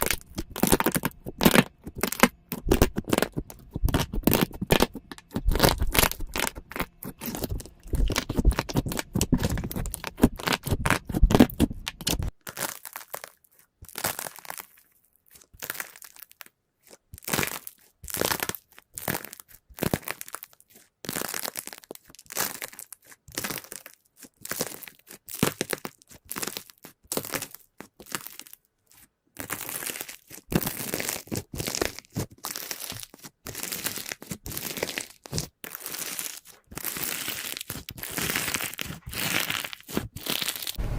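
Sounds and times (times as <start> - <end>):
slime crackling and popping: 0.0 - 28.6, 29.4 - 40.8.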